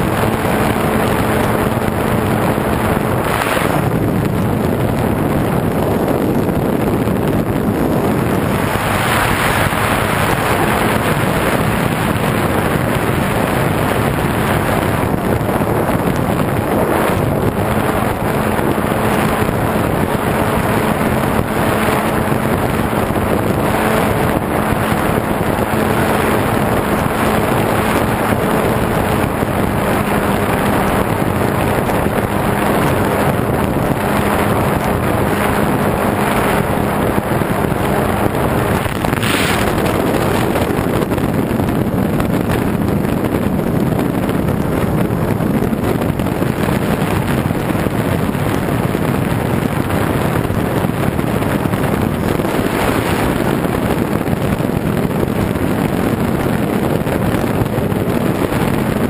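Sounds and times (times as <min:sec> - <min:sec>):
model plane motor and propeller: 0:00.0 - 0:59.0
wind rushing: 0:00.0 - 0:59.0.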